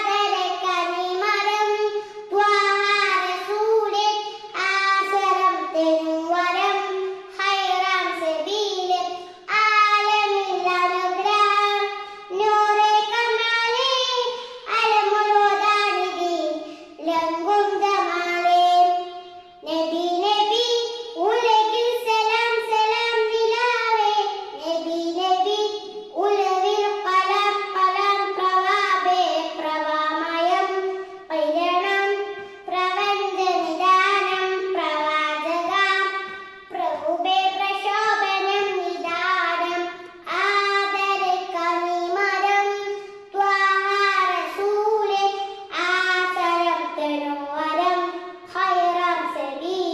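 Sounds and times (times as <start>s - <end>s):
girl singing into a microphone: 0.0s - 49.9s.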